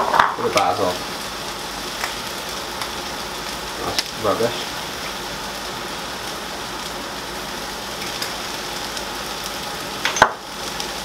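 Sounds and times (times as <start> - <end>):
meat frying in a pan: 0.0 - 11.0.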